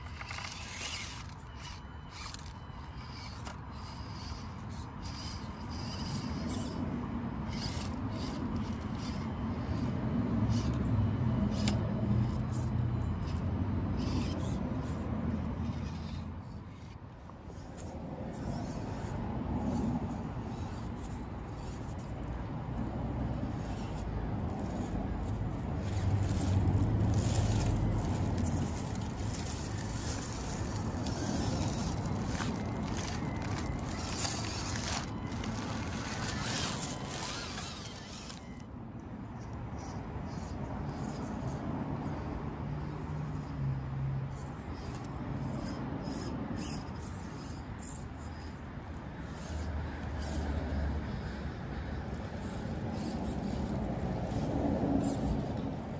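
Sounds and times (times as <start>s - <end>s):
small electric motor whirring: 0.0s - 55.9s
tires crackling on leaves and stone: 0.0s - 55.9s.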